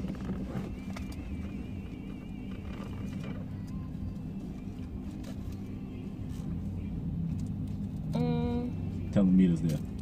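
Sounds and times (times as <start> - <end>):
car engine idling: 0.0 - 10.0
faint music: 0.0 - 10.0.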